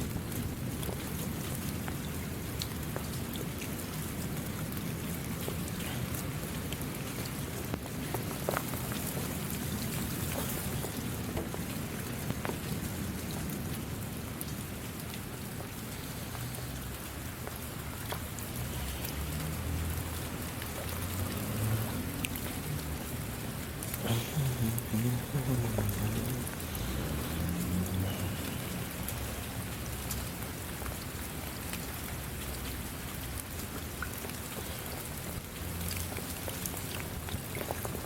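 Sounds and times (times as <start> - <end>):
rain falling: 0.0 - 38.0
raindrops tapping: 0.0 - 38.0.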